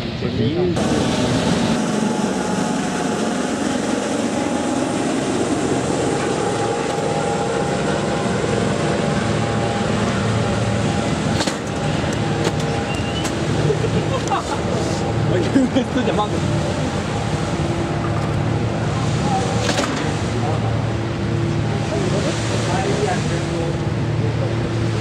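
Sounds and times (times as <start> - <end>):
helicopters flying past: 0.8 - 25.0.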